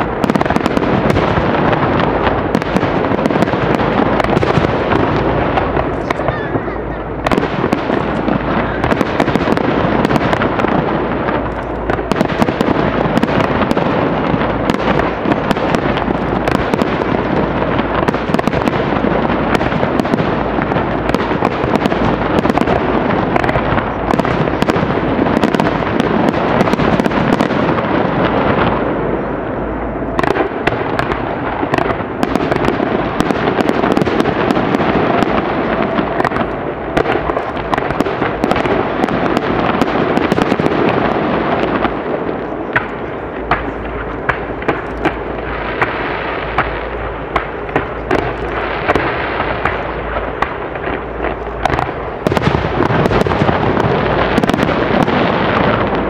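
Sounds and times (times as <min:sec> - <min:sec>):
distant fireworks booming: 0:00.0 - 0:56.0
fireworks crackles: 0:00.0 - 0:56.0.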